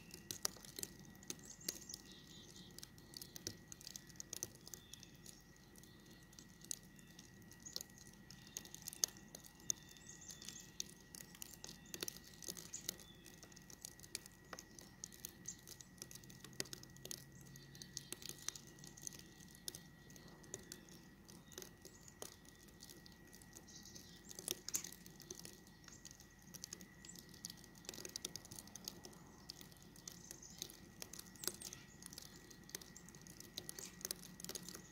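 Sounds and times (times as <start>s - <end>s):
snow pattering faintly: 0.0s - 34.9s.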